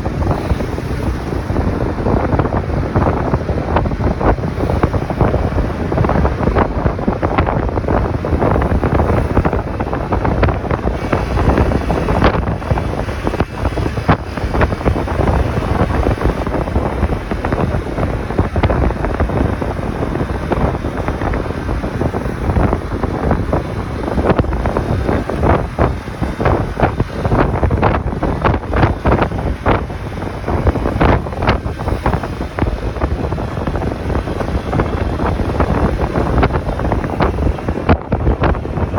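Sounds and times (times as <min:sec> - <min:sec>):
road noise: 0:00.0 - 0:38.9
wind buffeting microphone: 0:00.0 - 0:38.9.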